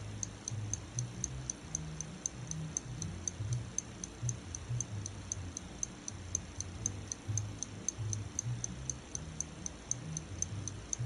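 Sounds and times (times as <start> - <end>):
clock ticking: 0.0 - 11.0
low pulsing music: 0.0 - 11.0.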